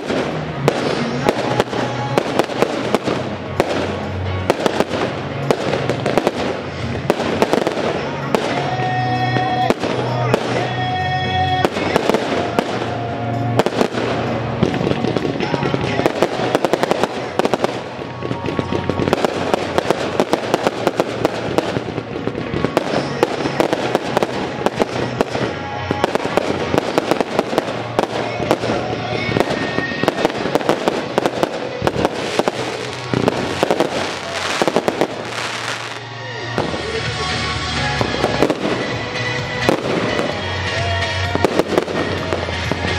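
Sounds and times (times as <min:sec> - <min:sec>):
fireworks bangs: 0:00.0 - 0:42.9
music: 0:00.0 - 0:42.9.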